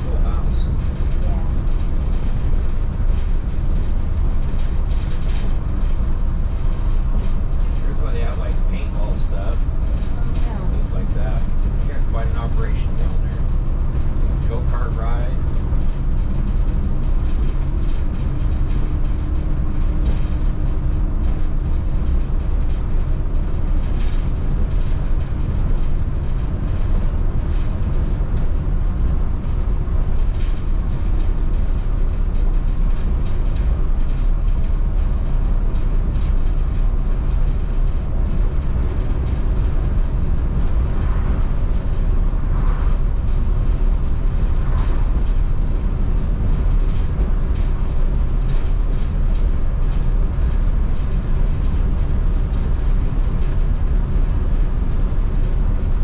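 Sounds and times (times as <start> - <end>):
bus engine drone: 0.0 - 56.0
road noise inside bus: 0.0 - 56.0.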